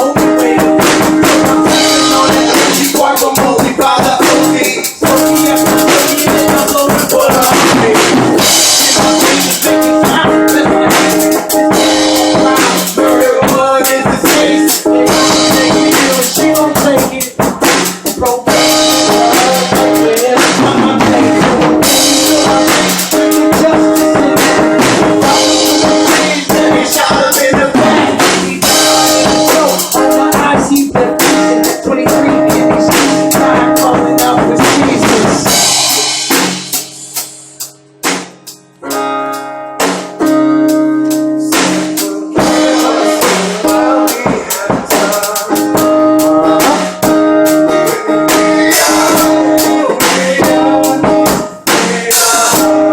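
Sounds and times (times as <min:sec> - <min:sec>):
hip-hop drum beat: 0:00.0 - 0:52.9.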